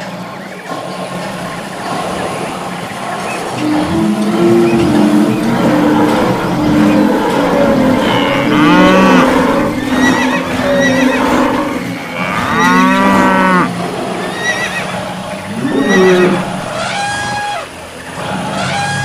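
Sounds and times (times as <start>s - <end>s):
noisy background: 0.0s - 19.0s
cattle mooing: 3.6s - 19.0s.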